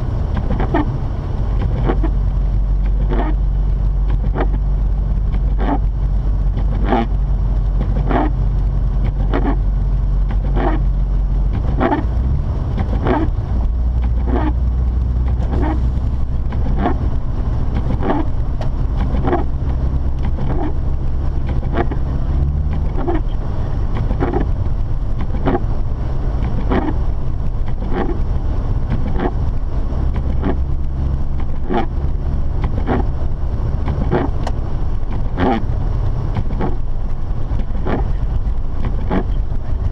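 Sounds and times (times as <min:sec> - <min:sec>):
car engine and tyres droning: 0:00.0 - 0:39.9
windshield wipers sweeping: 0:00.0 - 0:39.9.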